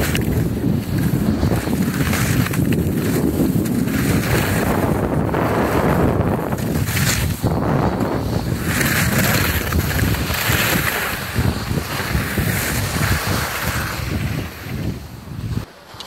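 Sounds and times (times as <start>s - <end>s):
wind buffeting microphone: 0.0s - 15.7s
skis sliding over packed snow: 0.0s - 16.0s.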